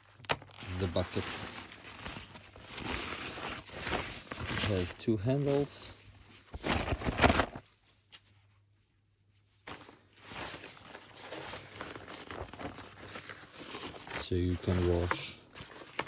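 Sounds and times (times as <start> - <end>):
fabric bucket crinkling rustle: 0.0 - 8.5, 9.3 - 16.0.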